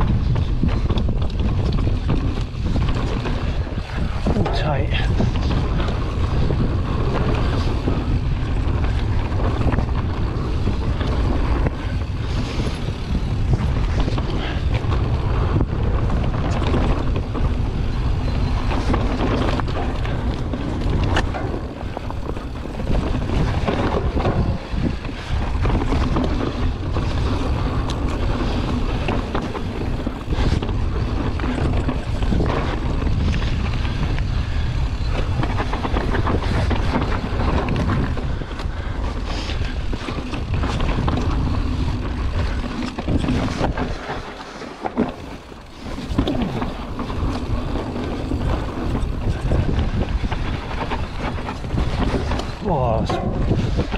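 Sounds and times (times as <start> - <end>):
bike knocks and rattles: 0.0 - 53.9
tyres rolling on dirt: 0.0 - 53.9
wind on microphone: 0.0 - 53.9.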